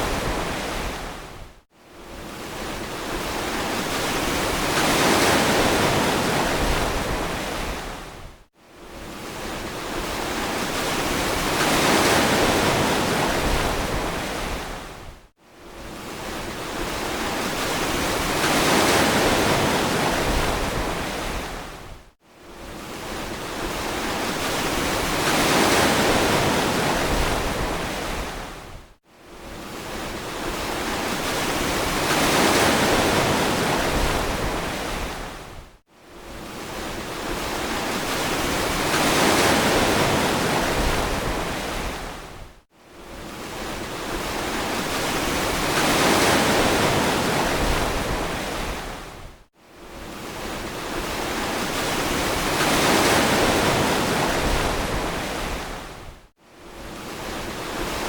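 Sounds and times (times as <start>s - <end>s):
ocean waves washing onto beach: 0.0s - 8.2s, 8.8s - 35.6s, 36.2s - 58.0s.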